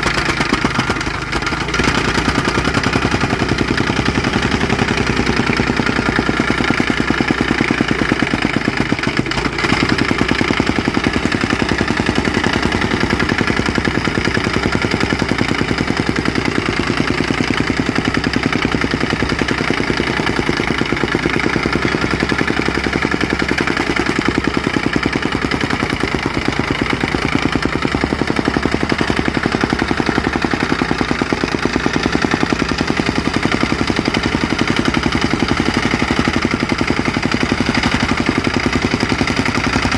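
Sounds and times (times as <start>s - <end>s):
fast even machine clatter: 0.0s - 39.9s
small engine running: 0.0s - 39.9s.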